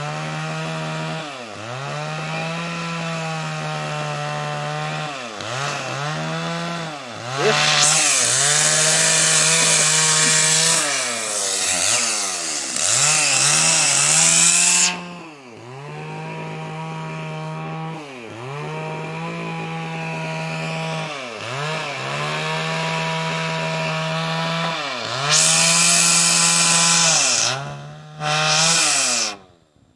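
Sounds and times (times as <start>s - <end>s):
chainsaw cutting wood: 0.0s - 29.6s
chainsaw running at high revs: 0.0s - 29.6s.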